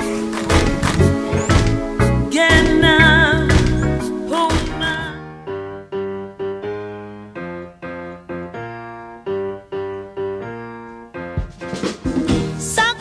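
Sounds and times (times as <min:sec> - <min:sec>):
slow piano chords: 0:00.0 - 0:12.6.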